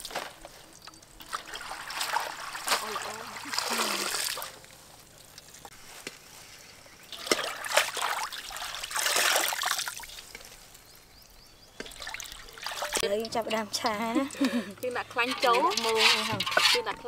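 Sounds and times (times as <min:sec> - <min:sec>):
water splashing and trickling: 0:00.0 - 0:05.9, 0:07.0 - 0:17.0.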